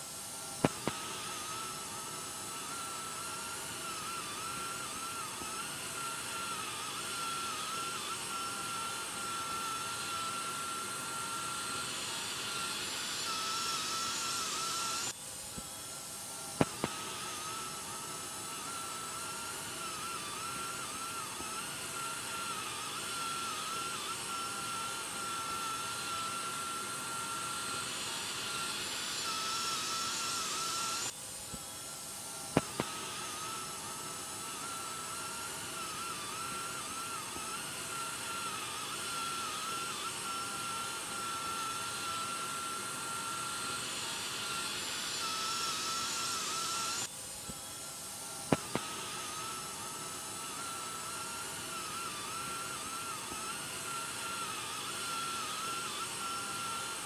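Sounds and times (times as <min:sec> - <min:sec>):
thin wavering whistle: 0:00.6 - 0:15.2, 0:16.6 - 0:31.2, 0:32.6 - 0:47.1, 0:47.7 - 0:57.0.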